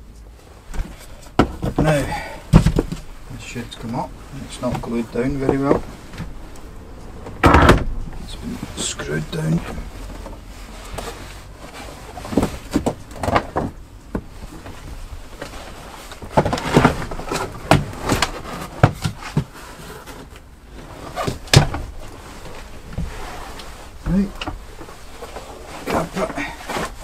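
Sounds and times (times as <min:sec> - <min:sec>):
carpet scraping and rustling: 0:00.0 - 0:27.0.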